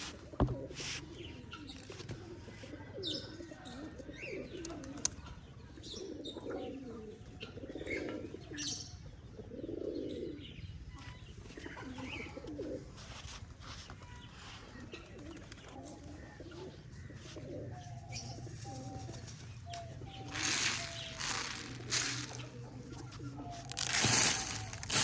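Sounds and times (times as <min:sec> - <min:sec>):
pigeons cooing: 0:00.0 - 0:10.8, 0:11.5 - 0:13.1, 0:14.7 - 0:25.0.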